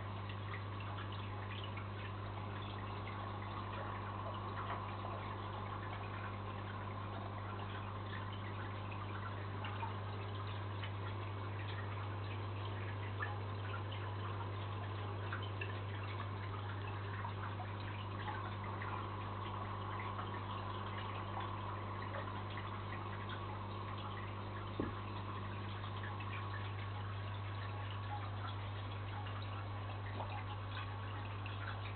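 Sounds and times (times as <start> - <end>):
aquarium equipment humming: 0.0 - 31.9
water dripping: 0.0 - 31.9.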